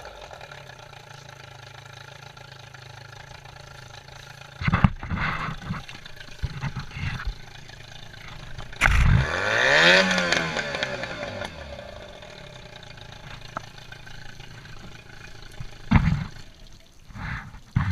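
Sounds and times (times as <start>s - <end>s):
engine revving: 0.0s - 16.5s.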